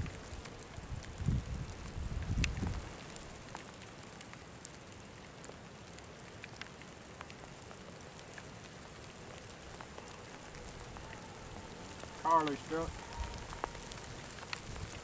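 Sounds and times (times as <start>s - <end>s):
faint steady hiss: 0.0s - 15.0s
light ticks and crackles: 0.0s - 15.0s.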